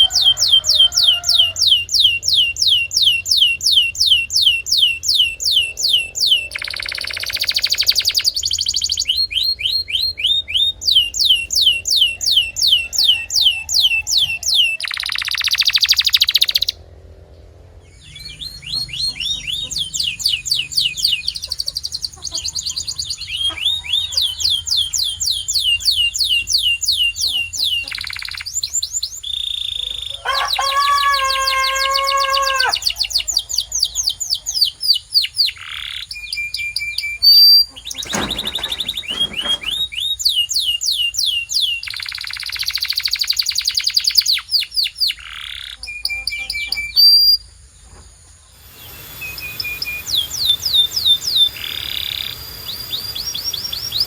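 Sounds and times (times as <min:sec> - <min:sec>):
canary singing trills: 0:00.0 - 0:16.8, 0:17.8 - 0:47.6, 0:48.5 - 0:54.0.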